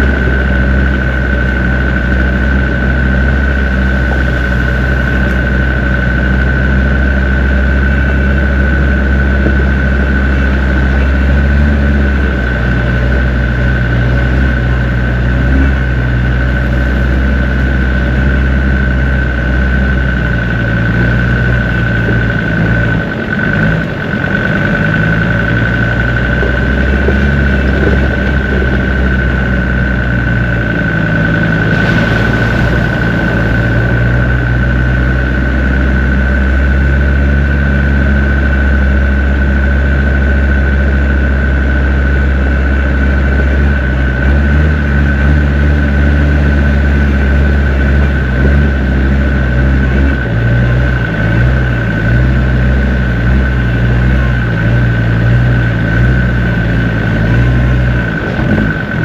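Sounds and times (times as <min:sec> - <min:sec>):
diesel engine at low revs: 0:00.0 - 0:59.0
steady high whine: 0:00.0 - 0:59.0.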